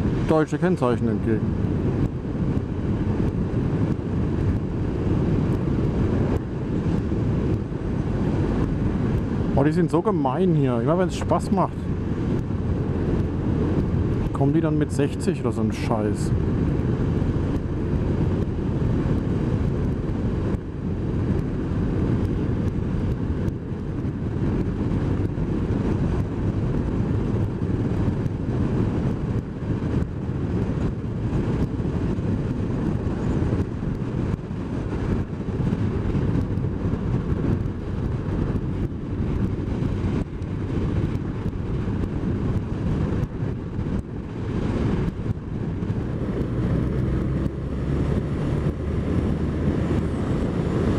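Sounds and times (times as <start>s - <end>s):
motorcycle engine cruising: 0.0s - 50.9s
wind rushing over microphone: 0.0s - 50.9s.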